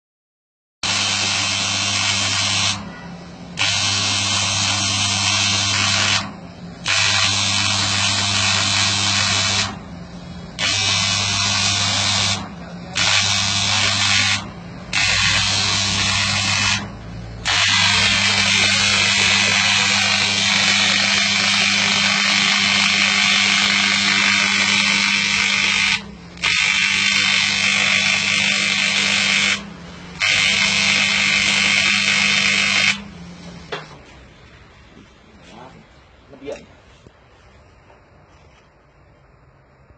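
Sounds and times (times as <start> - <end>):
welding arc buzzing and hissing: 0.8 - 33.2.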